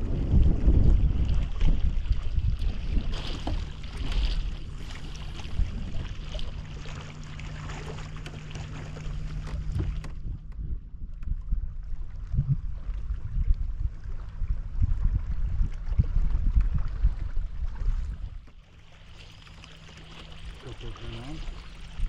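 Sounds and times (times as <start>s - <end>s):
wind rumbling on microphone: 0.0s - 18.6s
steady low hum: 0.0s - 22.0s.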